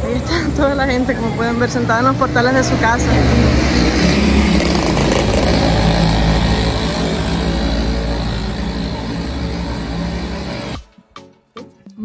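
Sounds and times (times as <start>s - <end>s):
motor engine humming: 0.0s - 10.9s.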